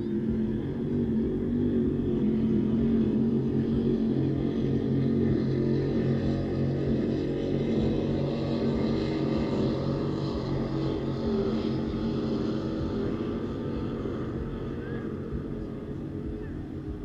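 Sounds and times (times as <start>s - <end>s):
powerboat engine drone: 0.0s - 17.0s.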